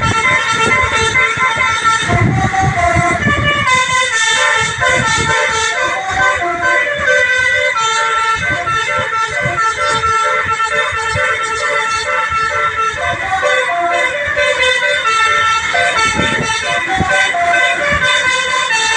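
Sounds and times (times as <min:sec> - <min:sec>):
bus horn playing a melody: 0:00.0 - 0:18.9.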